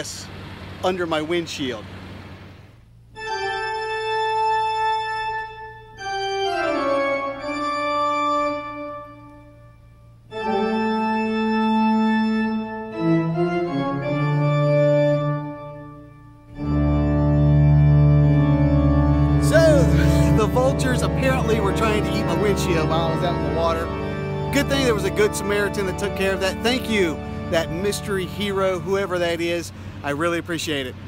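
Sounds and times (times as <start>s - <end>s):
organ playing held chords: 2.9s - 30.7s.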